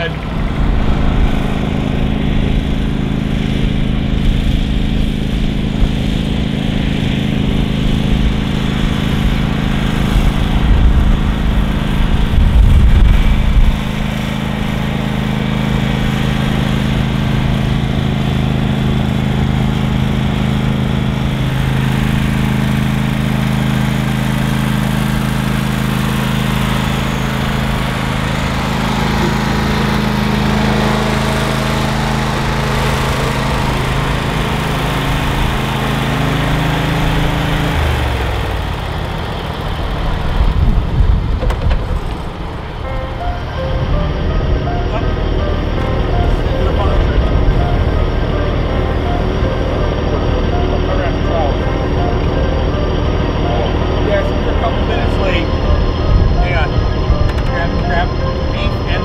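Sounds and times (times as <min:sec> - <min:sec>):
heavy low rumble: 0:00.0 - 0:36.0, 0:37.0 - 0:59.0
riding lawn tractor engine: 0:00.0 - 0:59.0.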